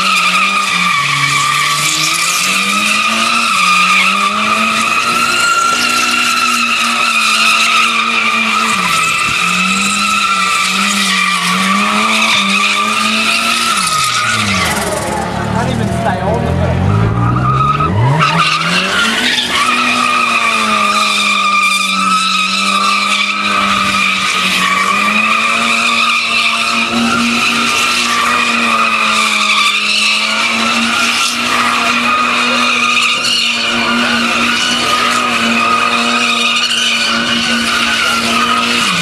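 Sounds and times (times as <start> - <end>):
car engine revving: 0.0 - 39.0
tyres squealing: 0.0 - 39.0.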